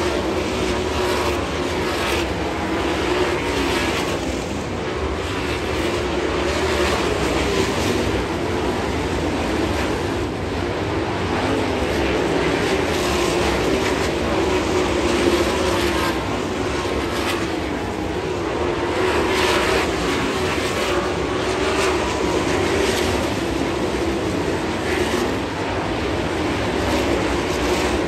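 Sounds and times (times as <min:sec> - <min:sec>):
racing car engines droning: 0:00.0 - 0:28.0.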